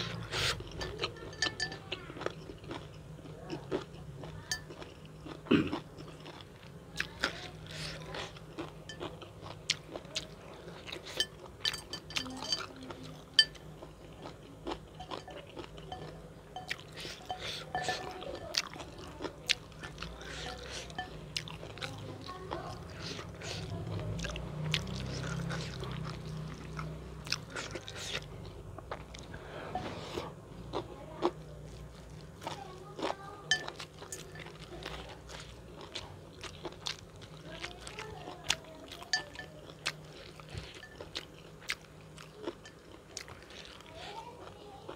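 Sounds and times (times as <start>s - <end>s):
person chewing and crunching: 0.0s - 44.9s.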